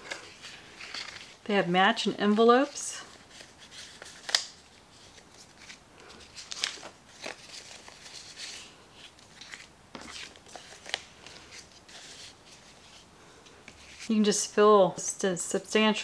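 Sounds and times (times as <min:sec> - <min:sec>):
paper rustling and sliding: 0:00.0 - 0:01.4, 0:02.5 - 0:14.1.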